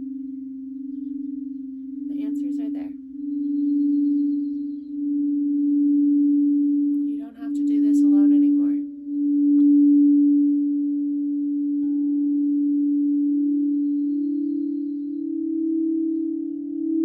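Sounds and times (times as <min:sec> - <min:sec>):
higher ringing tones: 0:00.0 - 0:17.0
singing bowl low hum: 0:00.0 - 0:17.0.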